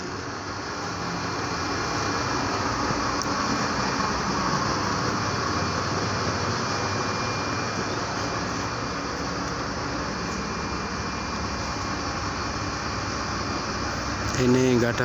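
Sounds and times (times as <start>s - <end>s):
diesel engine idling: 0.0s - 15.0s
faint high whine: 0.0s - 15.0s.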